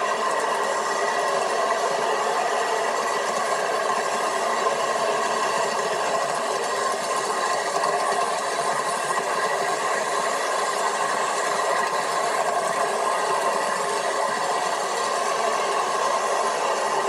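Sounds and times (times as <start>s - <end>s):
miniature train rattling on rails: 0.0s - 17.0s.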